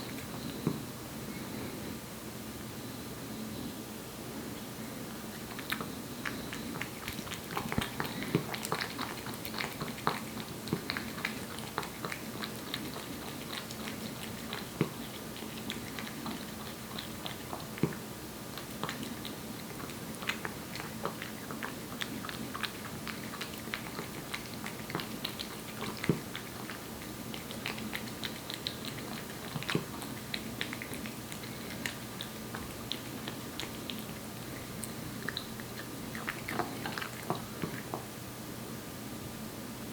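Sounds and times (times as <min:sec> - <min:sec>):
cat chewing wet food: 0:00.0 - 0:00.8, 0:05.2 - 0:38.2.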